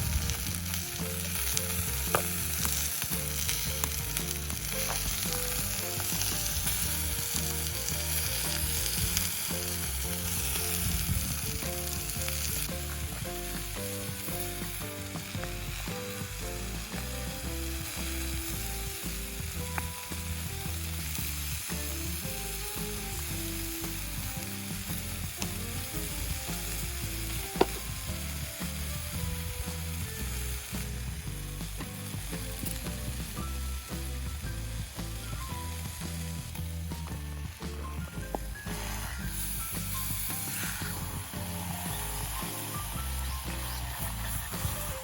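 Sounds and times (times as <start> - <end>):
sizzling hiss: 0.0 - 45.0
soft melodic music: 0.0 - 45.0.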